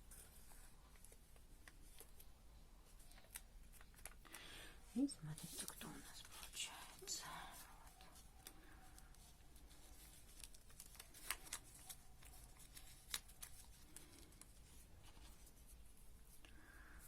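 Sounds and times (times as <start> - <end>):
paper crinkling and clicking: 0.0 - 4.5, 5.5 - 16.5.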